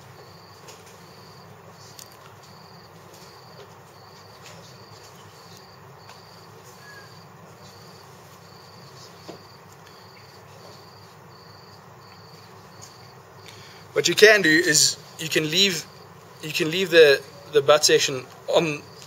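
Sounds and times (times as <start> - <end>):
cricket chirping: 0.0 - 19.0.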